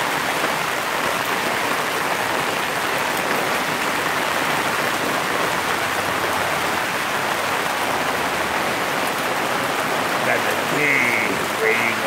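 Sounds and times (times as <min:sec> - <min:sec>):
rain on wet paving: 0:00.0 - 0:12.0.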